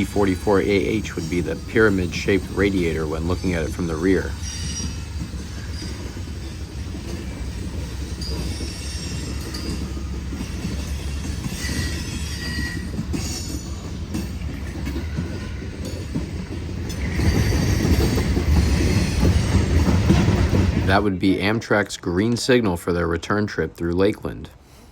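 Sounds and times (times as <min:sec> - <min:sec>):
wheel squeals: 0:00.0 - 0:20.9
freight cars rumbling: 0:00.0 - 0:24.6.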